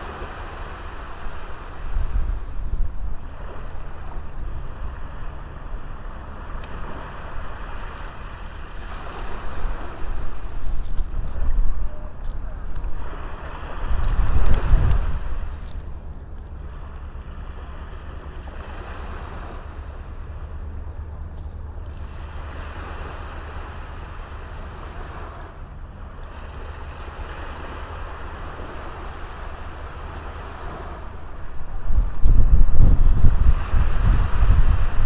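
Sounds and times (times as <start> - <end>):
sea waves washing on beach: 0.0 - 35.0
wind rumble on microphone: 0.0 - 35.0.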